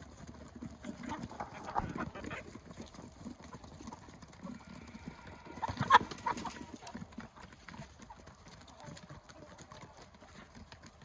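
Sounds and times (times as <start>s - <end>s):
chickens pecking at feed: 0.0s - 11.0s
hens clucking softly: 0.4s - 10.9s.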